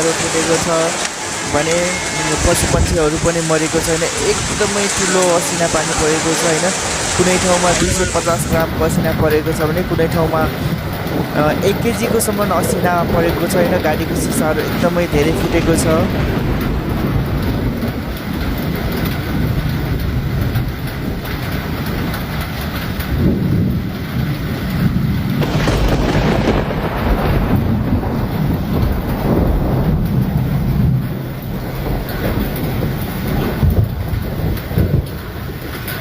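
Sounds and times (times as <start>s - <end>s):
hail and rain falling hard: 0.0s - 36.0s.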